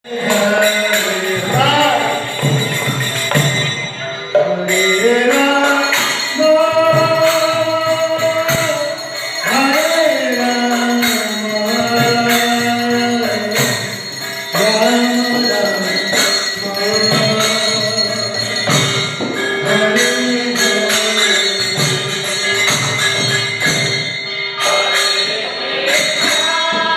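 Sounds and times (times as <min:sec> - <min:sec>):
steady percussion rhythm: 0:00.0 - 0:26.9.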